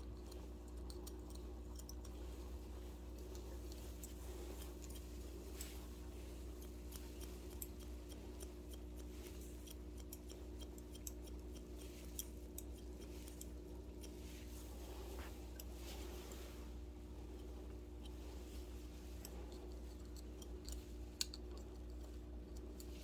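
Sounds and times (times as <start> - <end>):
shears snipping hair: 0.0 - 23.0
steady low hum: 0.0 - 23.0.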